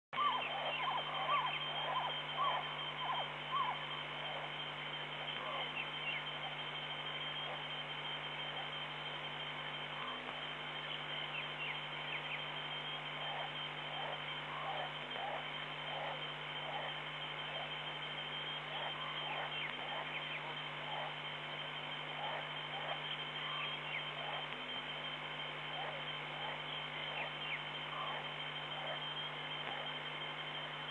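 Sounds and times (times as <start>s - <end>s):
electrical hum: 0.1s - 30.9s
small animals chirping: 0.2s - 7.8s, 9.9s - 25.0s, 25.6s - 30.6s
thin high whine: 0.2s - 30.9s.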